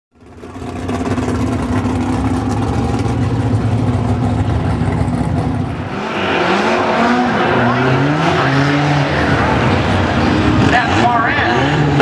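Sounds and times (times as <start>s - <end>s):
car engine idling: 0.2s - 12.0s.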